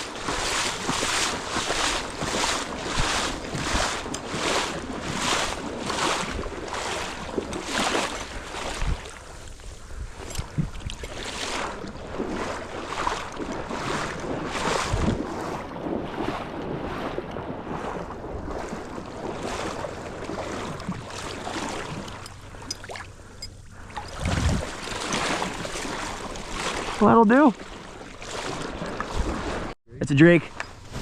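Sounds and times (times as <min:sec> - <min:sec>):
wind buffeting microphone: 0:00.0 - 0:29.8
footsteps sloshing through water: 0:00.0 - 0:31.0.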